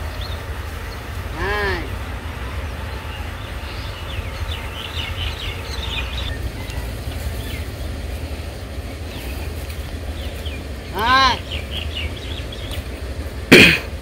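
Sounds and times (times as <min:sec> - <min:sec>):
small birds chirping: 0:00.0 - 0:13.5
low rumble: 0:00.0 - 0:14.0.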